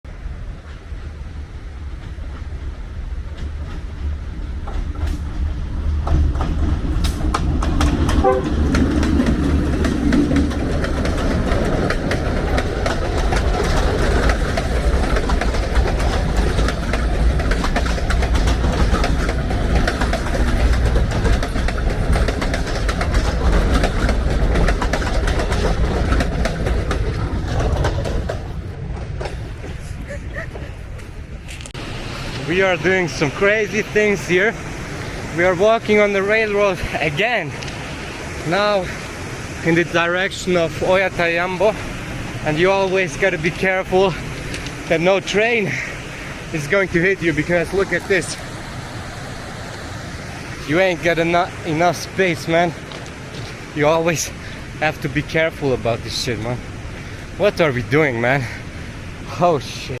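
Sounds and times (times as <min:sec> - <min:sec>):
train engine rumble: 0:00.1 - 1:00.0
wheels clattering over rails: 0:01.9 - 0:59.9.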